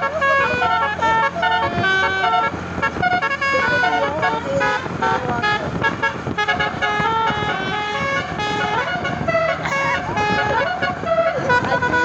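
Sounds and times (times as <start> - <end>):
musical air horn tune: 0.0 - 12.0
road noise: 0.0 - 12.0.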